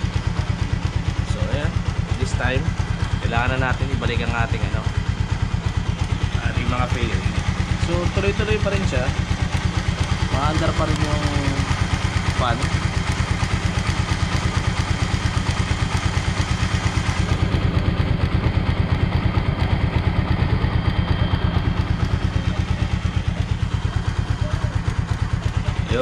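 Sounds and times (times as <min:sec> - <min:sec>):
motorcycle engine idling: 0:00.0 - 0:26.0
radiator fan whirring: 0:00.0 - 0:26.0.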